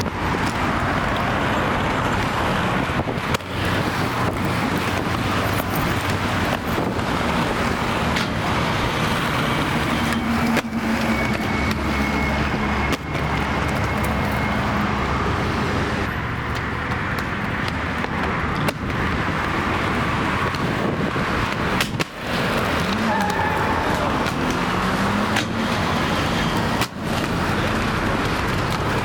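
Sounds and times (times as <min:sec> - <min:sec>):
cars passing on city road: 0:00.0 - 0:29.0
low engine hum: 0:00.0 - 0:29.0.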